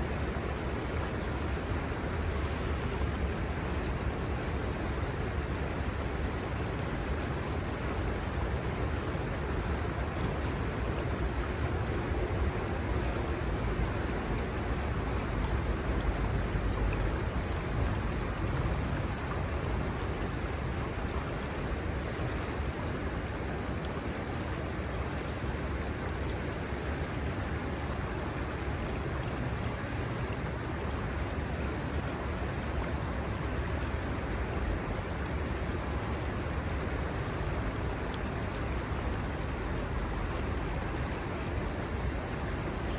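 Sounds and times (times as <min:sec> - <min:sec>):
shallow river water rushing: 0:00.0 - 0:42.9.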